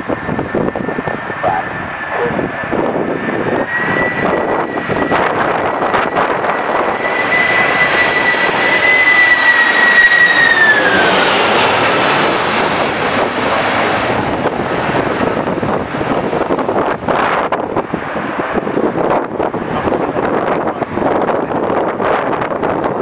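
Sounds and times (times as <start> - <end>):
jet airliner passing by: 0.0 - 23.0.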